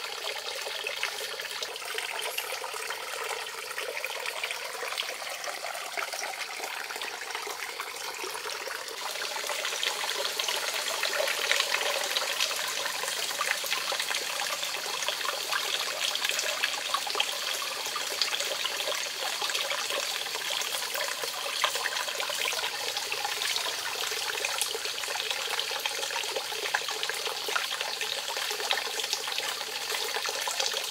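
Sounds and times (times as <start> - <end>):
water trickling into pond: 0.0 - 30.9.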